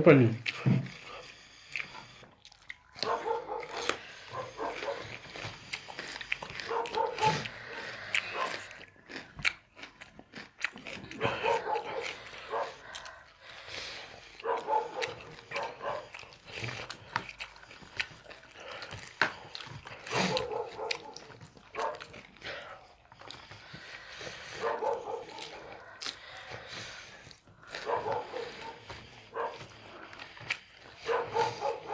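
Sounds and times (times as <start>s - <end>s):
dog chewing: 0.4s - 31.9s
dog vocal sounds: 2.9s - 31.9s.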